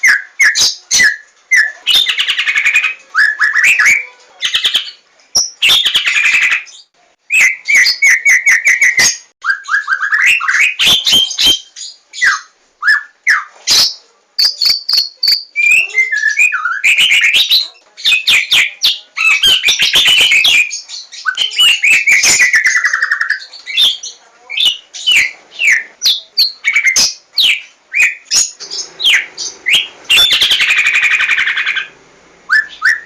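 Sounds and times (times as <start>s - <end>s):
songbird singing varied song: 0.0s - 33.0s.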